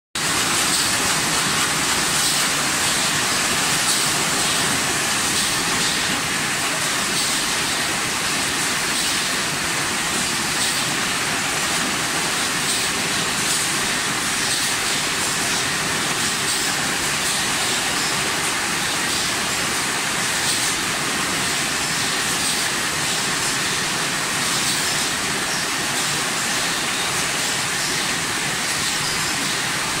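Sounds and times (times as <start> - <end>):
packing machinery running: 0.2 - 30.0.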